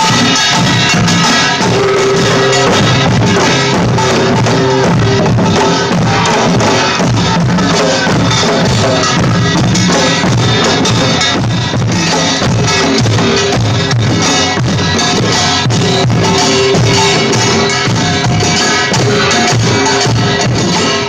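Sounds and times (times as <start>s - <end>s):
drum kit beating: 0.0s - 21.0s.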